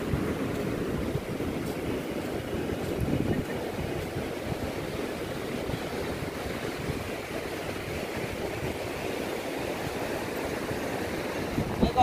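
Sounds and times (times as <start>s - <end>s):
sea surf rushing: 0.0s - 12.0s
wind buffeting microphone: 0.0s - 12.0s.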